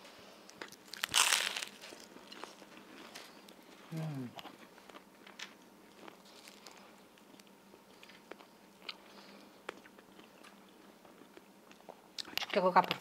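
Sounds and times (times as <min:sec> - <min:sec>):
faint crunchy chewing: 0:00.5 - 0:13.0.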